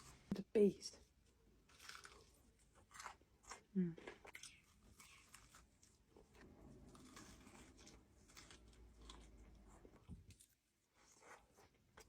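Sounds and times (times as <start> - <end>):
chewing and crunching fried food: 1.2 - 12.0.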